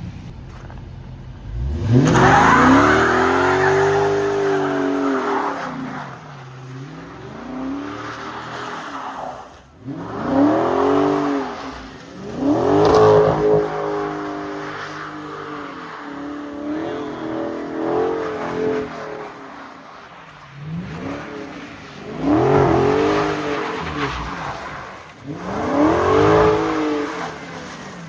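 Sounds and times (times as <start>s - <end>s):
tires spinning on snow: 0.0s - 28.0s
car engine revving hard: 1.4s - 9.2s, 9.8s - 19.4s, 20.3s - 28.0s.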